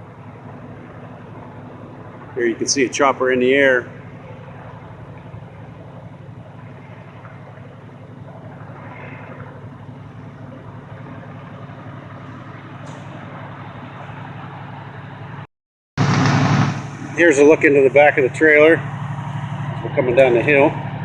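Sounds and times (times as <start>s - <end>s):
pulsing mechanical drone: 0.0s - 21.0s.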